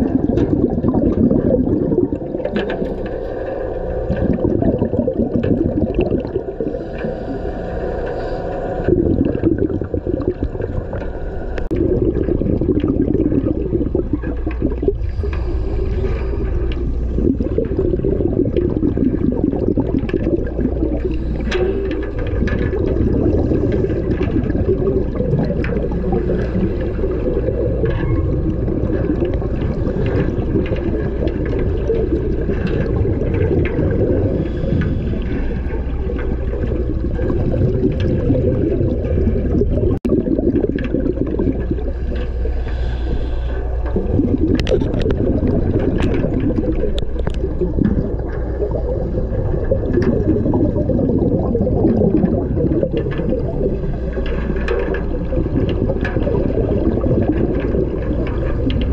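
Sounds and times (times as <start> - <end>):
air bubbling: 0.0 - 58.9
underwater low rumble: 0.0 - 58.9.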